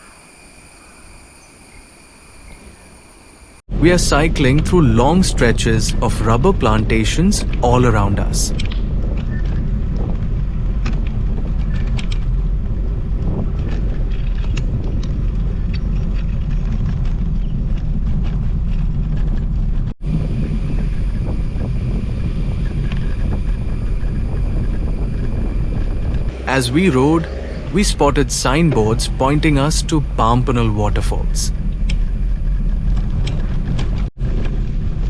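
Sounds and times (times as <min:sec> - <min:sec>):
wind buffeting microphone: 0:03.7 - 0:35.0.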